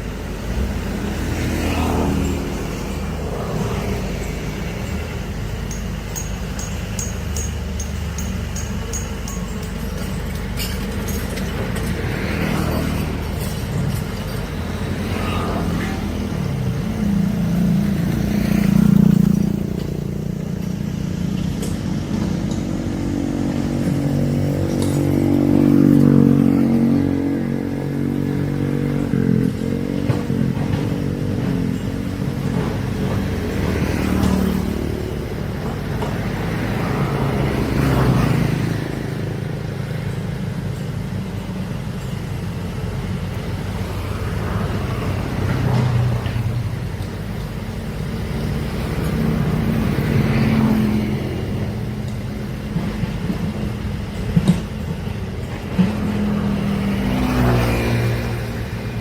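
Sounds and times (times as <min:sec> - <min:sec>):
excavator diesel engine revving: 0:00.0 - 0:59.0.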